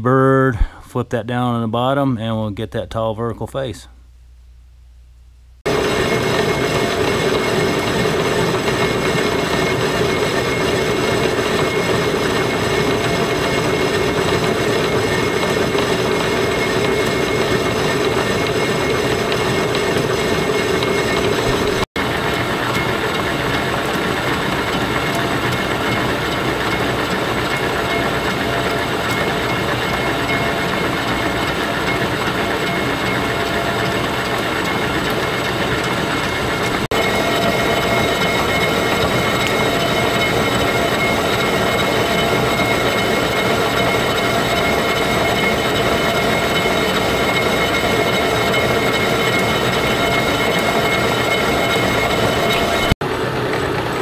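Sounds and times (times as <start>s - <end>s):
milling machine cutting metal: 5.7s - 54.0s.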